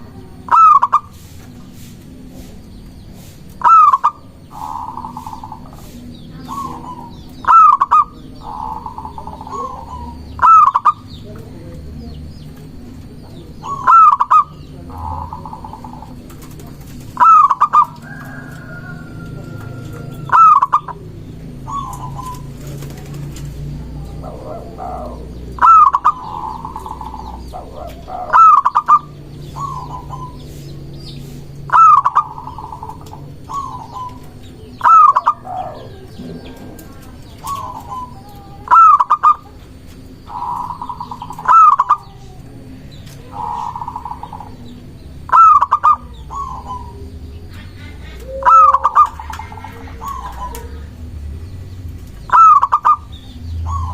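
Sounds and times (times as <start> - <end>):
dove cooing song: 0.0 - 53.9.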